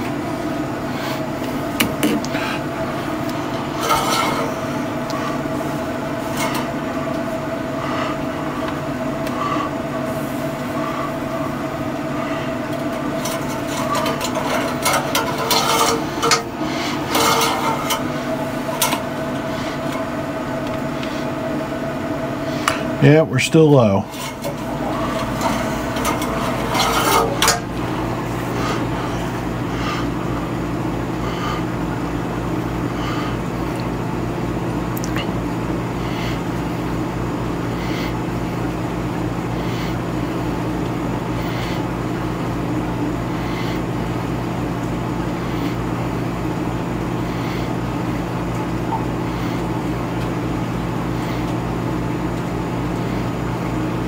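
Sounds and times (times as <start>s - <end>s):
machinery hum: 0.0s - 54.0s.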